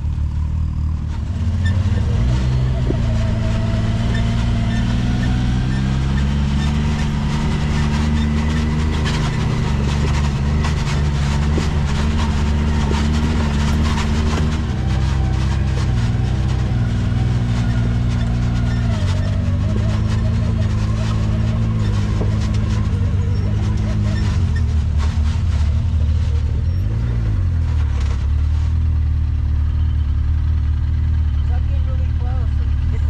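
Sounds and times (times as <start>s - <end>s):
utv engine running: 0.0s - 33.0s
clicks and rattles: 1.1s - 28.7s.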